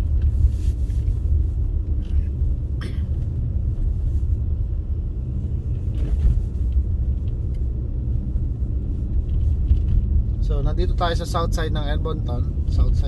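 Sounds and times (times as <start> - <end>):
road rumble inside car: 0.0 - 13.0.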